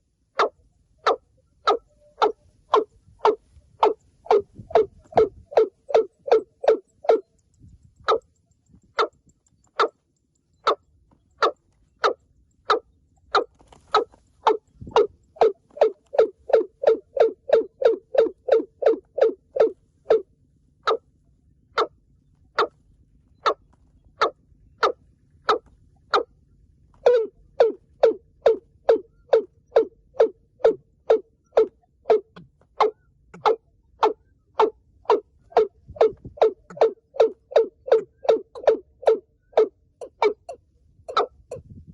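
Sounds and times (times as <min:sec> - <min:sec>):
bird giving hollow kok calls: 0:00.0 - 0:41.8.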